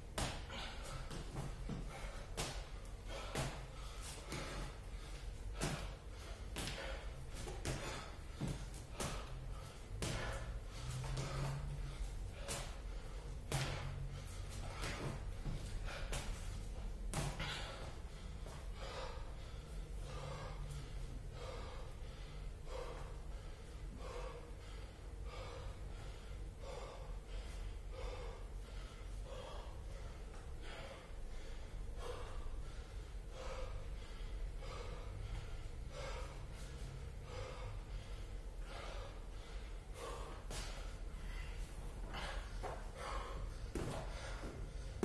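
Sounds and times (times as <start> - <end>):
man breathing hard: 0.0 - 45.0.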